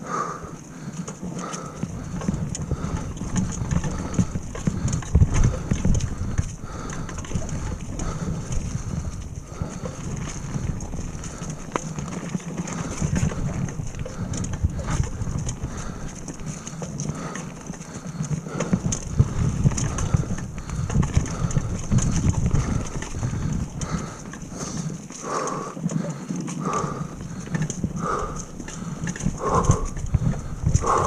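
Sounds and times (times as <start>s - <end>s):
bike rattling and knocking: 0.1s - 31.0s
bike tyres rolling over leaves: 0.1s - 31.0s
wind rumble on microphone: 0.5s - 25.1s, 26.7s - 31.0s.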